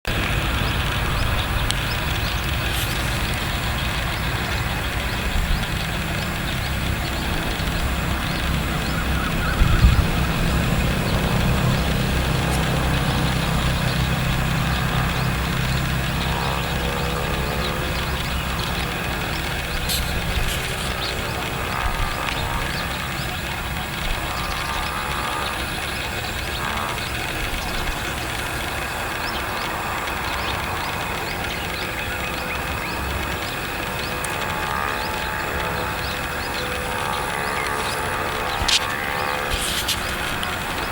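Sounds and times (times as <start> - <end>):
birds chirping: 0.1 - 40.9
insects chirping: 0.1 - 40.9
passing vehicle engine: 0.1 - 40.9
traffic rumble: 0.1 - 40.9.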